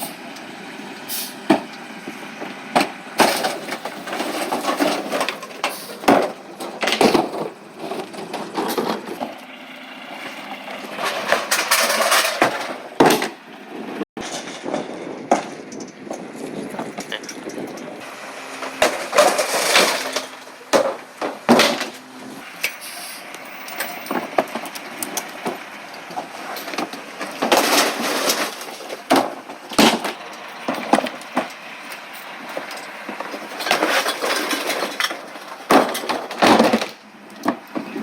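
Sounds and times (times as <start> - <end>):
recyclables clattering and crashing: 1.4 - 22.8, 23.6 - 38.0.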